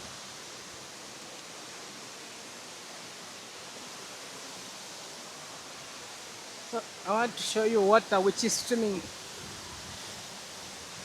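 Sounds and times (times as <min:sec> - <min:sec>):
waterfall rushing onto rock: 0:00.0 - 0:11.0.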